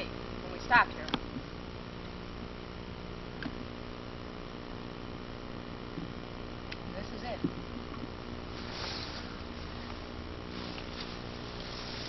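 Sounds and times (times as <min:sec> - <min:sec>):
background hiss: 0:00.0 - 0:12.0
low electrical hum: 0:00.0 - 0:12.0.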